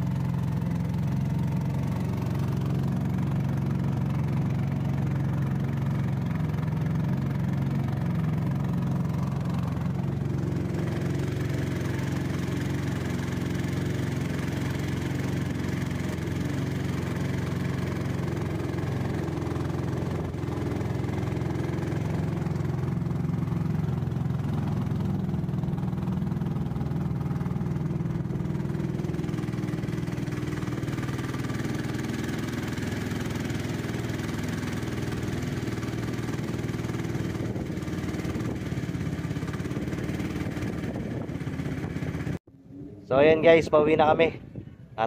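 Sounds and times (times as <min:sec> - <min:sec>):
motor boat engine droning: 0:00.0 - 0:45.0.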